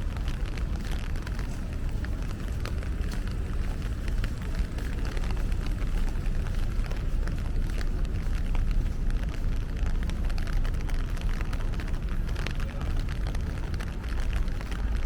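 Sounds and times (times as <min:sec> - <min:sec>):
low city rumble: 0:00.0 - 0:15.0
raindrops pattering: 0:00.0 - 0:15.0.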